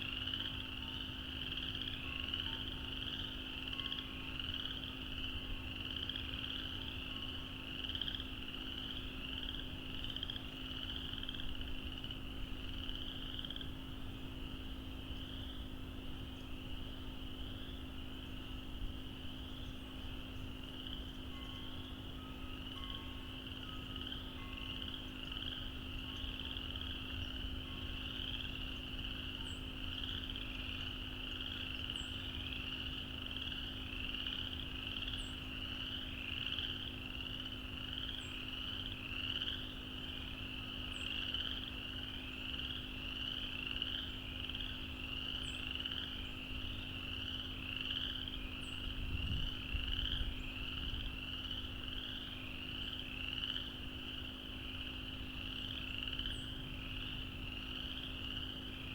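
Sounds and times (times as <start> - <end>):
chorus of frogs calling: 0.0 - 16.0, 16.8 - 58.9
faint steady hum: 0.0 - 58.9.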